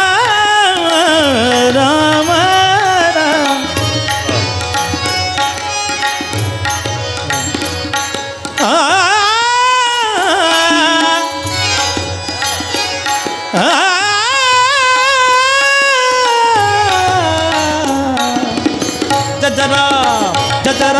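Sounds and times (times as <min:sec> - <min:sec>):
tabla playing: 0:00.0 - 0:20.9.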